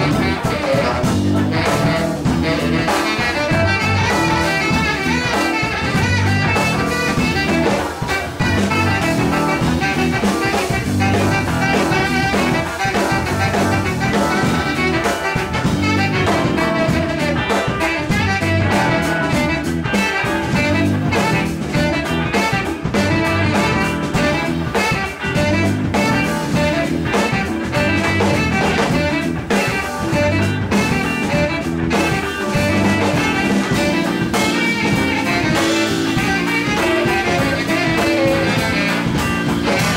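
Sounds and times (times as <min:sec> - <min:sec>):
brass horn: 0:00.0 - 0:39.9
drum kit: 0:00.0 - 0:39.9
electric guitar: 0:00.0 - 0:39.9
saxophone: 0:00.0 - 0:39.9.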